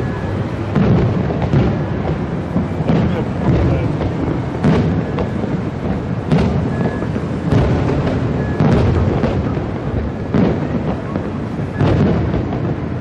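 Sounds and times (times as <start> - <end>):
continuous low rumble: 0.0 - 13.0
fireworks deep booms: 0.0 - 13.0.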